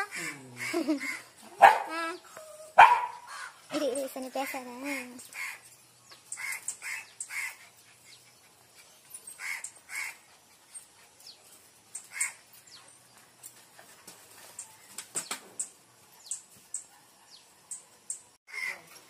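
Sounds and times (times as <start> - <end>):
birds harsh calls: 0.0 - 13.3, 14.0 - 19.0.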